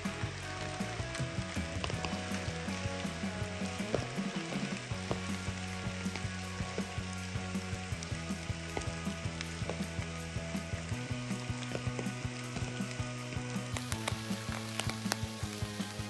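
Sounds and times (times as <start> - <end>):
background music low sustained notes: 0.0 - 16.0
heavy rain hissing: 0.0 - 16.0
rain drop clicks: 0.0 - 16.0.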